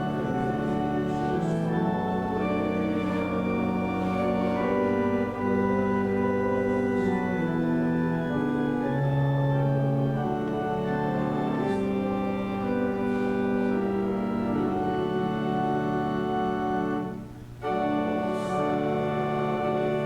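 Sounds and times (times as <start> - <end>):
church organ chords: 0.0 - 20.0.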